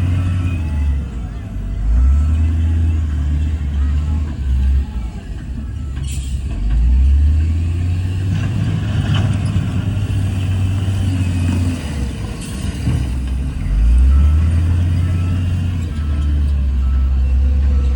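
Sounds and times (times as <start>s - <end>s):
diesel engine rumbling: 0.0s - 17.9s.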